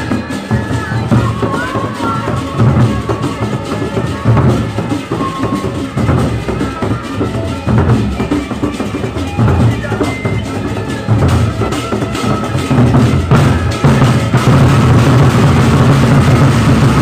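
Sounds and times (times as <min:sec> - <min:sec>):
hand drums in driving rhythm: 0:00.0 - 0:17.0
heavy low drum stroke: 0:00.0 - 0:17.0.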